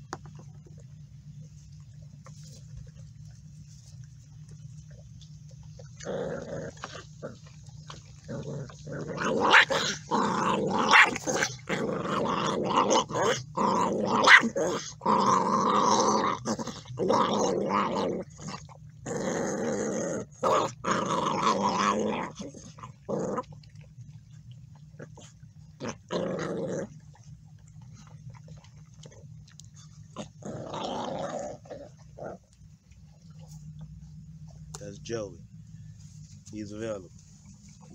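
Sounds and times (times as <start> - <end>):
puppies growling: 0.0 - 35.6.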